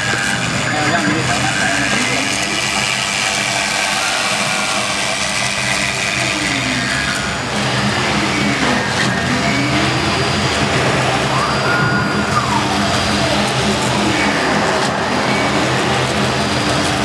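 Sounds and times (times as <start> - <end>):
cnc router machine drone: 0.0 - 17.0.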